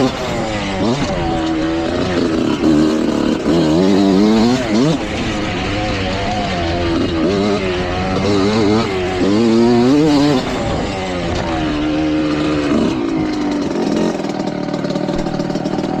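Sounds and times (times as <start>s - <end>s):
dirt bike engine revving and idling: 0.0s - 16.0s.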